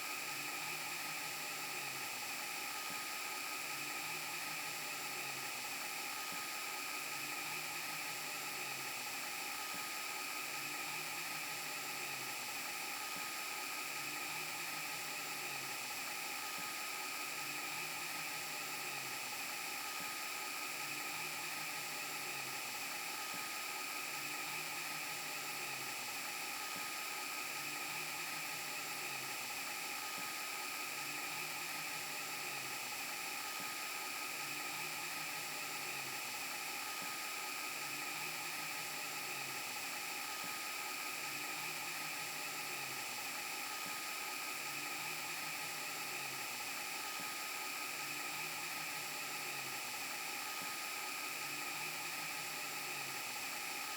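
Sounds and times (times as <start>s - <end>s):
tape hiss and whine: 0.0s - 53.9s.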